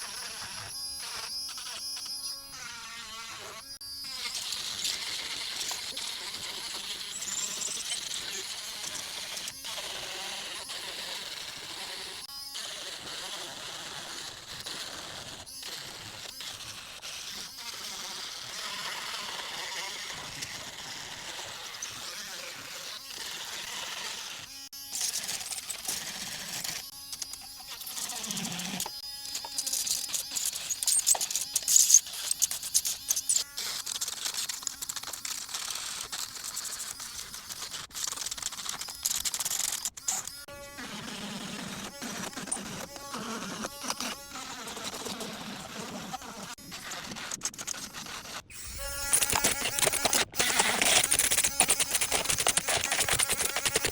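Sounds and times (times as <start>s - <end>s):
rotary tool sanding wood: 0.0s - 53.9s.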